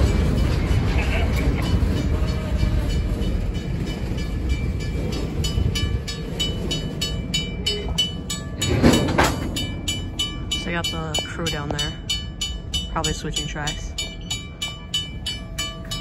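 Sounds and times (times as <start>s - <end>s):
bell ringing: 0.0s - 16.0s
diesel locomotive rumbling: 0.0s - 16.0s.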